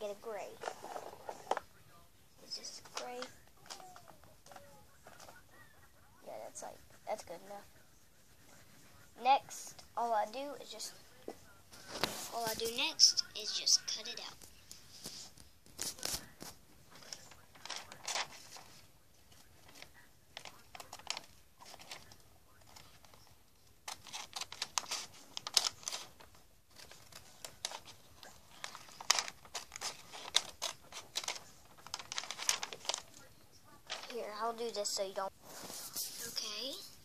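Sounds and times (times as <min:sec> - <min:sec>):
paper rustling: 0:00.5 - 0:01.7, 0:02.4 - 0:05.8, 0:10.7 - 0:37.0.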